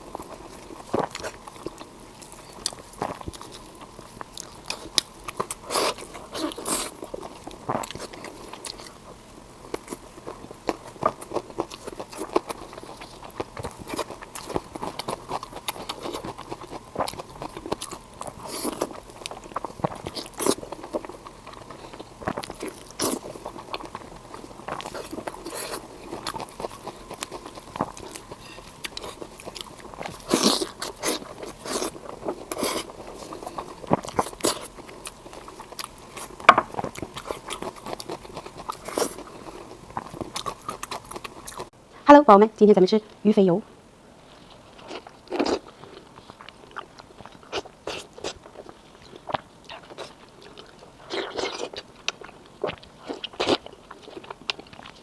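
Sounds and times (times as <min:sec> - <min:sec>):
crunchy bites and chewing: 0:00.0 - 0:41.7, 0:44.6 - 0:55.0.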